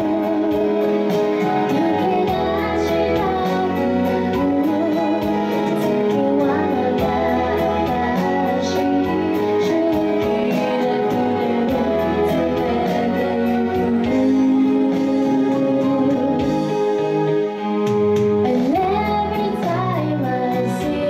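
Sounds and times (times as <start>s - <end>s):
woman singing into microphone: 0.0s - 17.2s, 18.4s - 21.0s
backing music with steady beat: 0.0s - 21.0s.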